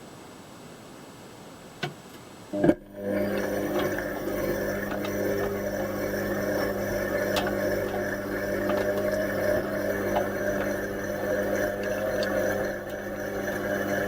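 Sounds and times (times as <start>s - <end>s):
washing machine electric hum: 2.0s - 14.0s
washing machine clicking: 2.6s - 14.0s.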